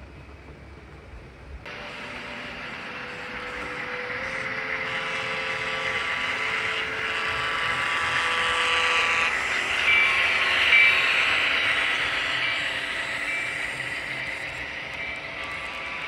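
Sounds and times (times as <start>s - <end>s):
train wheels on rails: 0.0s - 16.0s
high wheel squeals: 1.7s - 16.0s.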